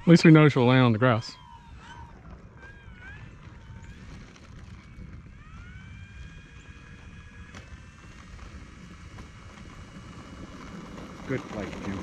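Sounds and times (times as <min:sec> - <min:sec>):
electric motor and propeller whine: 0:00.0 - 0:12.0
wind rumbling on microphone: 0:00.0 - 0:12.0.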